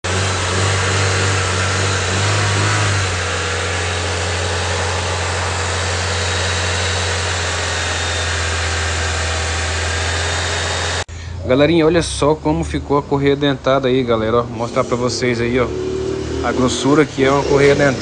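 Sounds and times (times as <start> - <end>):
car engine running: 0.0 - 11.1, 13.2 - 18.0.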